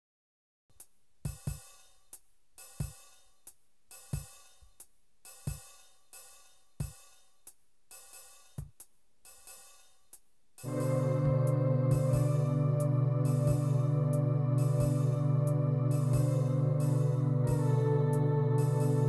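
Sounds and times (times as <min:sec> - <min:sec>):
hi-hat strikes: 0:00.7 - 0:19.0.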